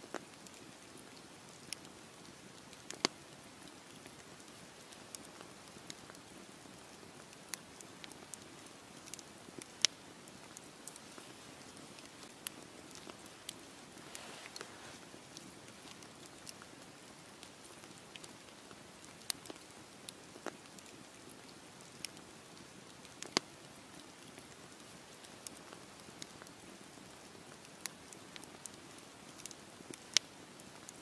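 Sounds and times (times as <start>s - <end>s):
campfire flames hissing: 0.0s - 31.0s
logs crackling and popping: 0.0s - 31.0s.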